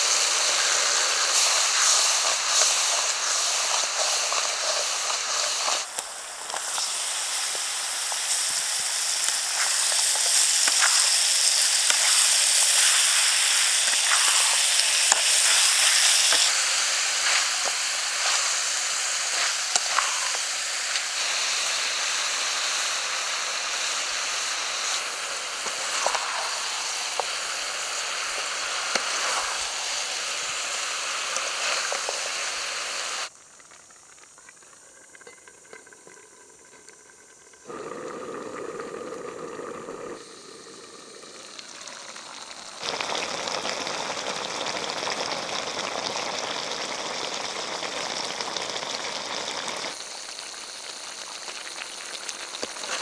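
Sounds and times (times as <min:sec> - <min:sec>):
chicken wings sizzling in a wok: 0:00.0 - 0:34.2, 0:37.7 - 0:53.0.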